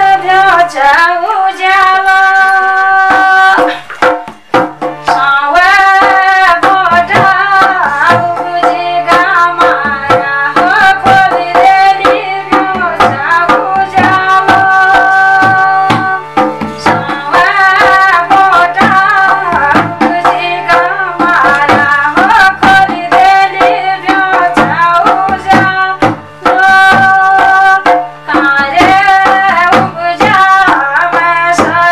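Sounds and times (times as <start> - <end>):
woman singing folk song: 0.0 - 4.1, 5.0 - 31.9
hand drum beat: 0.0 - 31.9.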